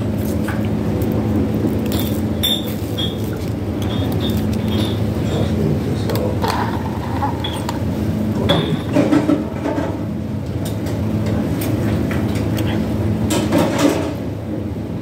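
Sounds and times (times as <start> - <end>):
restaurant room hum: 0.0 - 15.0.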